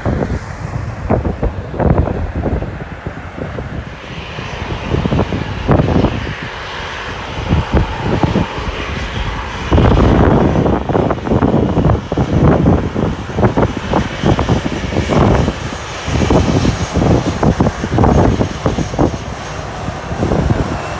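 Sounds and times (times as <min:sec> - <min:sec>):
jet engines running: 0:00.0 - 0:20.9
wind buffeting on microphone: 0:00.0 - 0:20.9.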